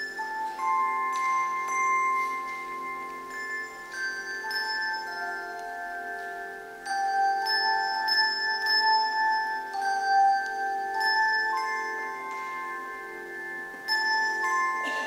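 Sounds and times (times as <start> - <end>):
handbell choir ringing chords: 0.0 - 15.0.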